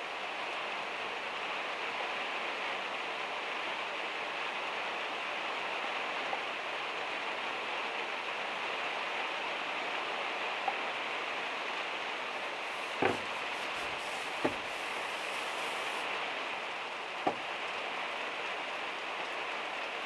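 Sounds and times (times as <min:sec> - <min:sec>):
heavy rain on metal roof: 0:00.0 - 0:20.0.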